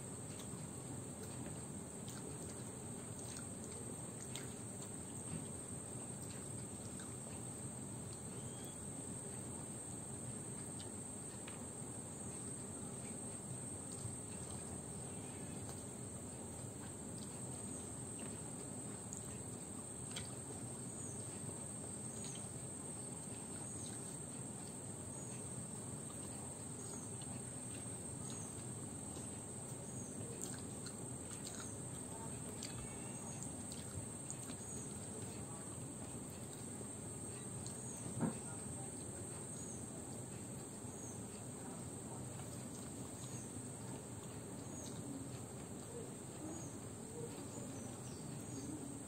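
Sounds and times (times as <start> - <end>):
crickets chirping: 0.0 - 49.0
faint clicks of eating by hand: 0.0 - 49.0.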